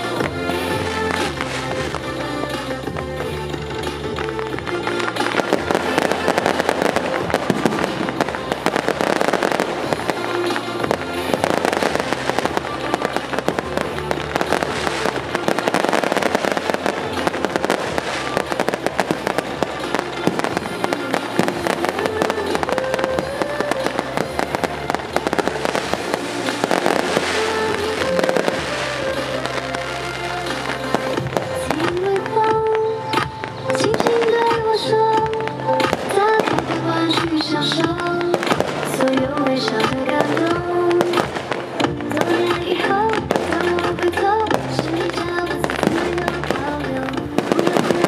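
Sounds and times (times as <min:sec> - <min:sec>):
fireworks crackling: 0:00.0 - 0:48.0
show music with held tones: 0:00.0 - 0:48.0.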